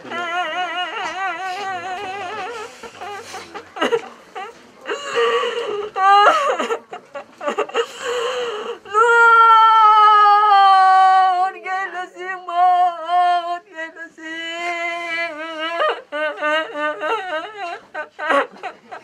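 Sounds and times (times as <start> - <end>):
woman wailing and sobbing: 0.0 - 19.0.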